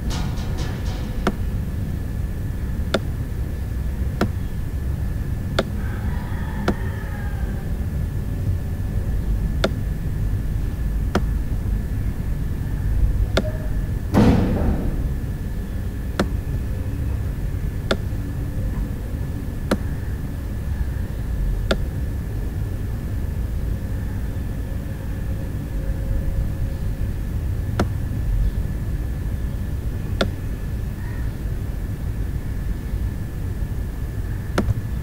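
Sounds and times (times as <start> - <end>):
steady low rumble: 0.0 - 5.8, 7.7 - 35.0.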